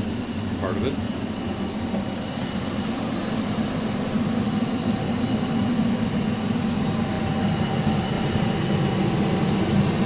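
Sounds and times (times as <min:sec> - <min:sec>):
faint high steady tones: 0:00.0 - 0:10.0
low background hum: 0:00.0 - 0:10.0.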